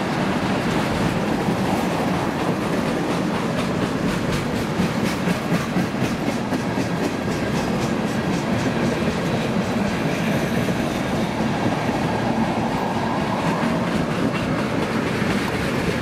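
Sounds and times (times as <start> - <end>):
train rumble: 0.0 - 16.0
train wheels clicking over rail joints: 0.0 - 16.0.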